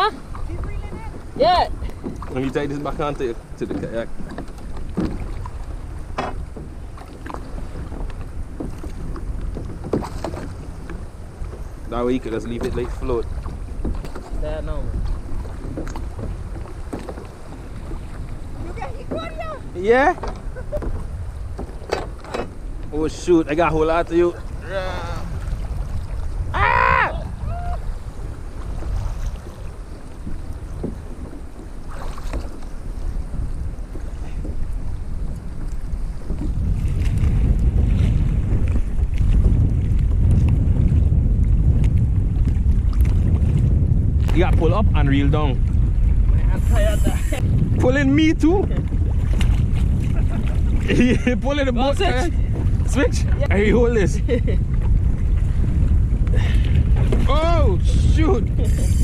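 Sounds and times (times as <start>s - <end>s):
water lapping against plastic hull: 0.0s - 59.0s
wind buffeting microphone: 0.0s - 59.0s.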